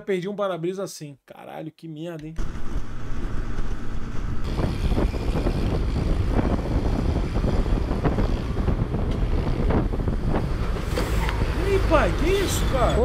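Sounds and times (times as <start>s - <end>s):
motorbike engine: 2.4s - 13.0s
road noise: 2.4s - 13.0s
wind buffeting microphone: 2.4s - 13.0s.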